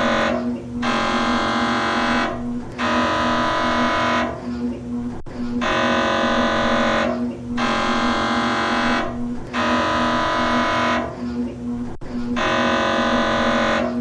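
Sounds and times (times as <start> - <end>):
low pulsing hum: 0.0 - 14.0
mri scanner buzzing: 0.0 - 14.0.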